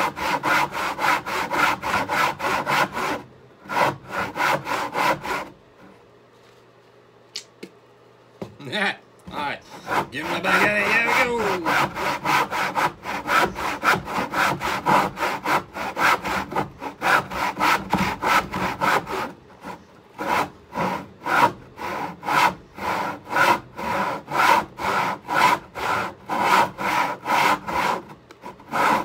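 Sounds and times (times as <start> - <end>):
hand saw cutting wood: 0.0 - 5.6, 9.3 - 29.0.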